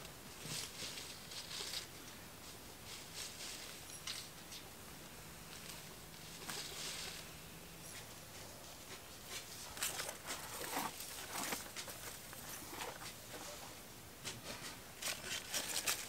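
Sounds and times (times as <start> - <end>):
faint low hum: 0.0 - 16.0
hands scratching and rustling: 0.0 - 16.0.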